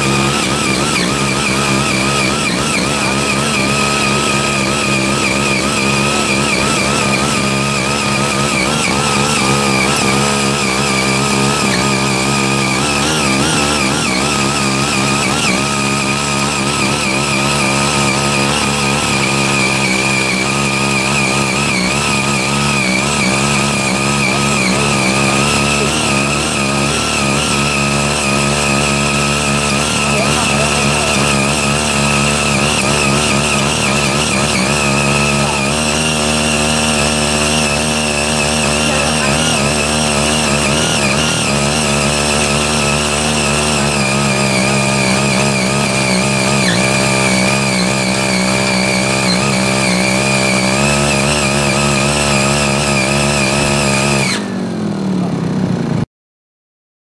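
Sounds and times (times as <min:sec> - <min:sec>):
small tiller engine running: 0:00.0 - 0:56.1.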